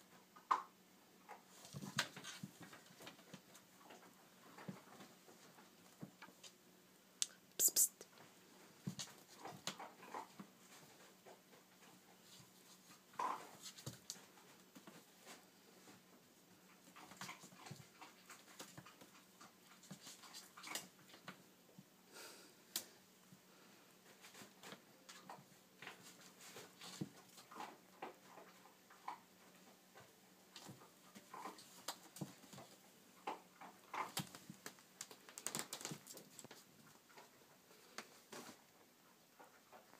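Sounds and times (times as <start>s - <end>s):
kitten rustling and tapping: 1.3s - 6.6s, 7.6s - 21.5s, 24.1s - 39.9s.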